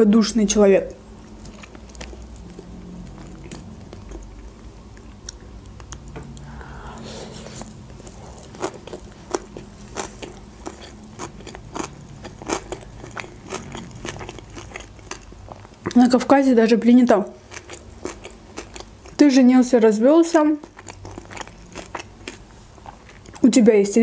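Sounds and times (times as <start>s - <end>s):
person chewing food: 1.2s - 16.0s, 17.4s - 19.2s, 20.3s - 23.4s.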